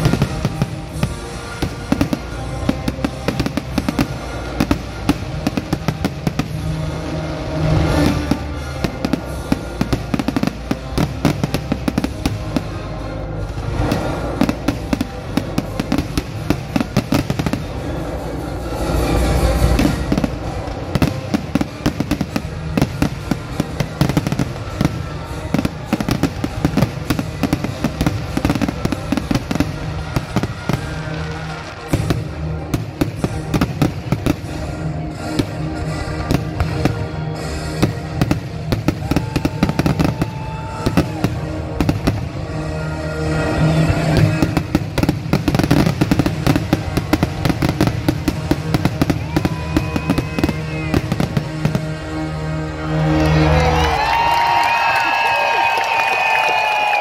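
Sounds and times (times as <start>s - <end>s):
fireworks bangs and crackles: 0.0s - 57.0s
music playing: 0.0s - 57.0s.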